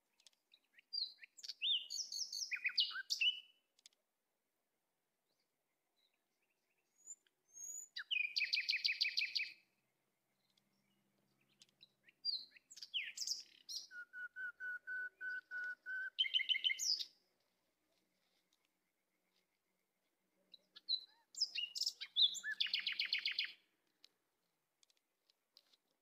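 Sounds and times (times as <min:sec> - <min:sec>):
songbird singing: 0:00.0 - 0:04.0, 0:05.1 - 0:24.2.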